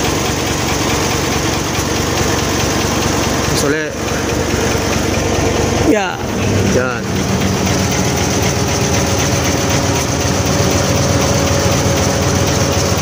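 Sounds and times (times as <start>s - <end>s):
diesel engine running: 0.0s - 13.0s
hydraulic pump whine: 0.0s - 13.0s.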